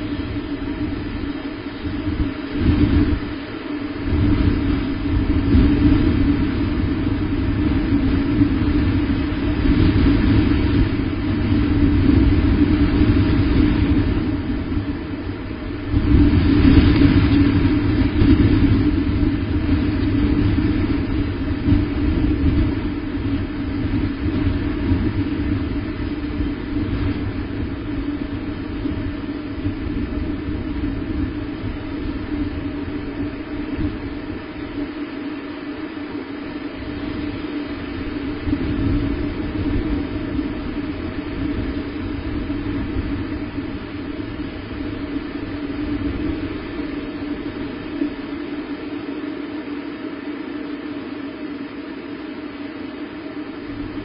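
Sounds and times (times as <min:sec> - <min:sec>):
wind rumbling on microphone: 0:00.0 - 0:54.0.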